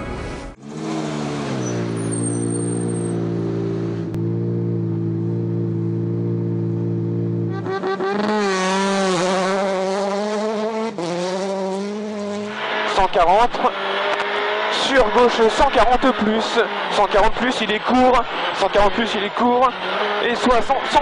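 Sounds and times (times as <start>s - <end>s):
rally car engine revving: 0.6s - 21.0s.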